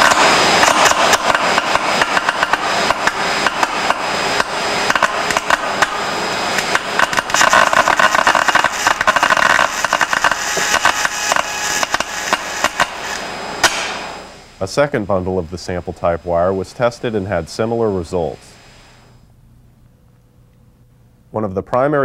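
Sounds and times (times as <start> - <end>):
electrical arcing hiss and crackle: 0.0 - 19.4.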